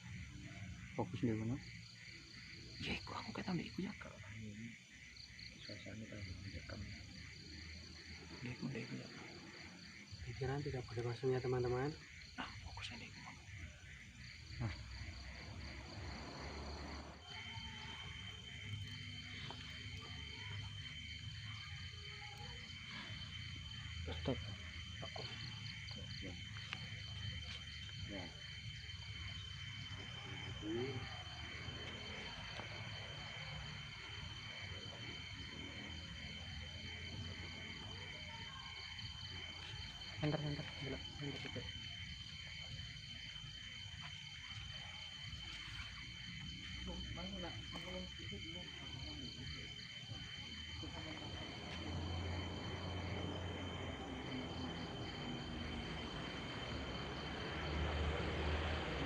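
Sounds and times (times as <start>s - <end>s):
crickets chirping: 0.0s - 59.0s
high insect trill: 0.0s - 59.0s.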